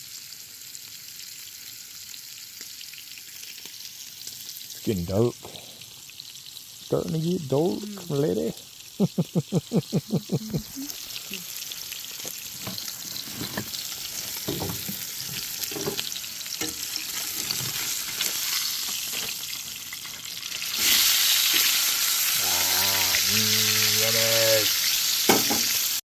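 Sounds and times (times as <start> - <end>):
meat sizzling in a frying pan: 0.0 - 26.0.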